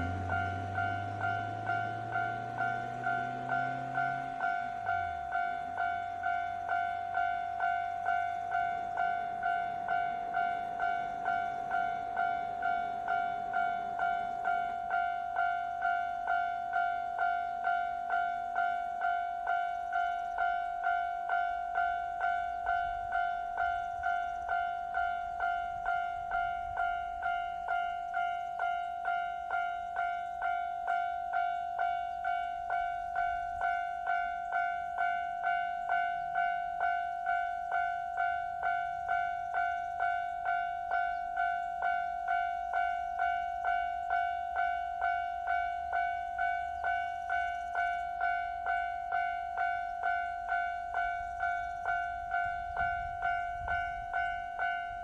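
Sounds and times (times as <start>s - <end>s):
level crossing bell ringing: 0.0s - 55.0s.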